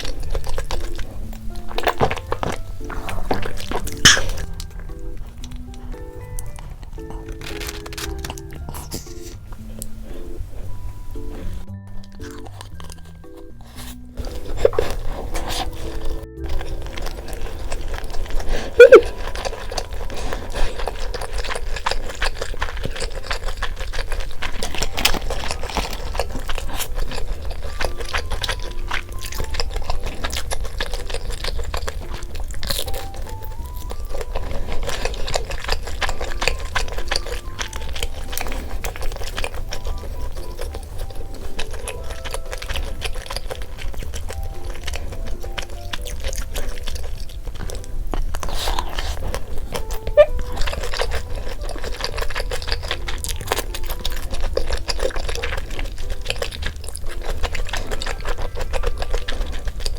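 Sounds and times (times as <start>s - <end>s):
crunching and chewing fried chicken: 0.0s - 59.9s
light background music: 0.0s - 59.9s.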